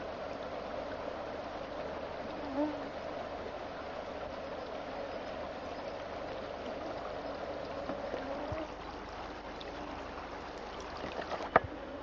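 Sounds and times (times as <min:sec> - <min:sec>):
river water over gravel: 0:00.0 - 0:11.9.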